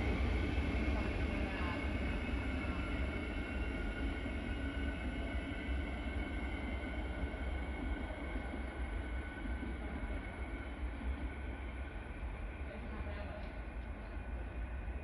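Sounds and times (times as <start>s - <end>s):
electric train rumble and whine: 0.0s - 15.0s.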